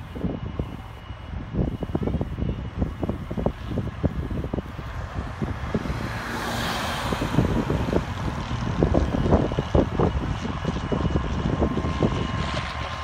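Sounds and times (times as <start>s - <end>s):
propeller plane passing low: 0.0s - 13.0s
wind buffeting microphone: 0.0s - 13.0s.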